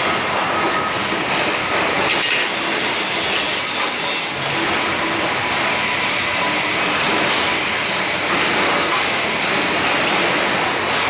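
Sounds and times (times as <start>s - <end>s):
industrial machinery hiss and rumble: 0.0s - 11.0s.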